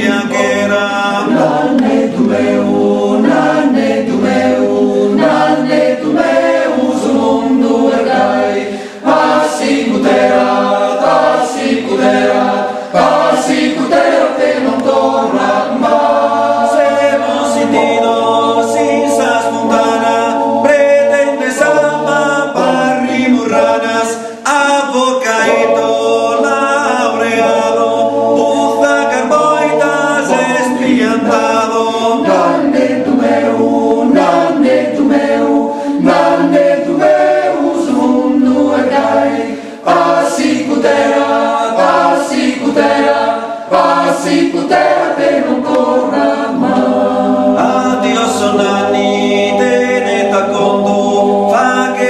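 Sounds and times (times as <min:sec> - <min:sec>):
choir singing a cappella: 0:00.0 - 0:52.0.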